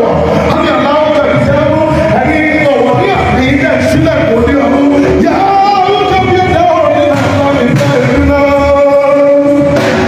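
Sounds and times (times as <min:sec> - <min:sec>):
man singing long notes: 0:00.0 - 0:09.8
music: 0:00.0 - 0:10.0.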